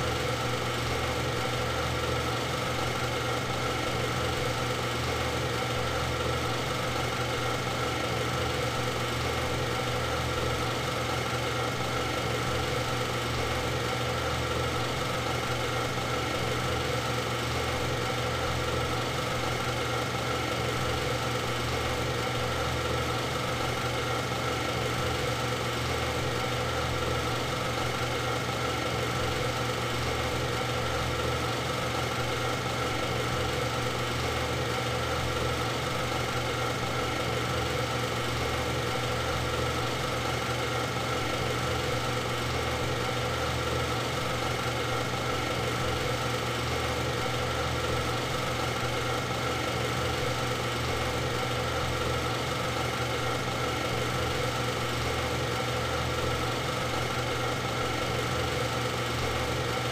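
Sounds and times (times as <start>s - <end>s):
film projector mechanical hum: 0.0s - 59.9s.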